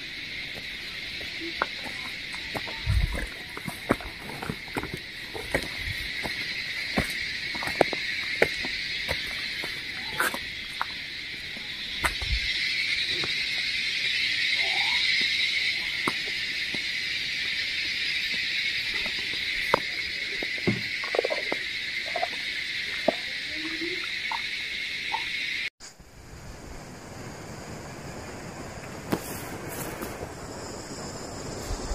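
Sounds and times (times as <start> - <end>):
insects buzzing: 0.0 - 31.9.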